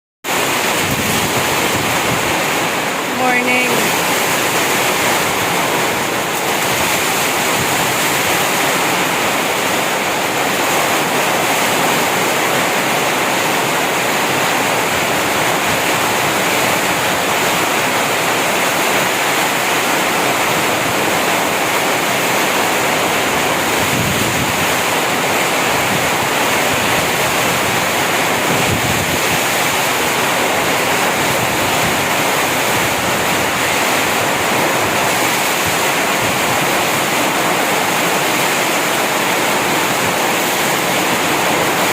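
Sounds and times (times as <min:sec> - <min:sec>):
heavy rain falling: 0:00.2 - 0:41.9.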